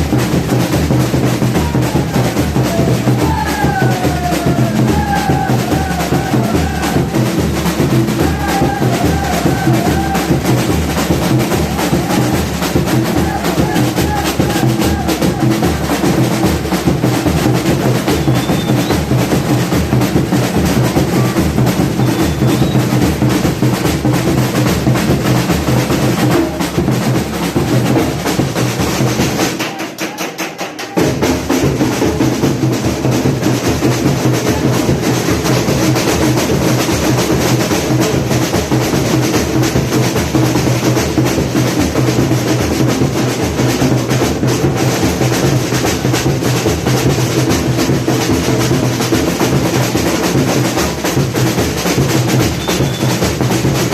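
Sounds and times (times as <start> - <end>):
samba drum section playing: 0.0 - 53.9.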